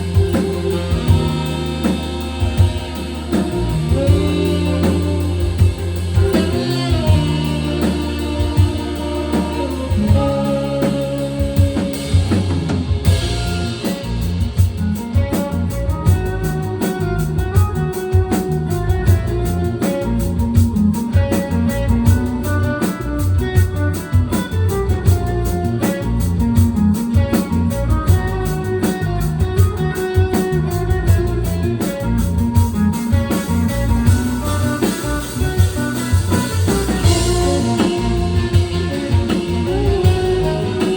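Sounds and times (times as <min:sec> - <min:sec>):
bass: 0:00.0 - 0:40.9
drum kit playing a steady beat: 0:00.0 - 0:40.9
guitar: 0:00.0 - 0:40.9.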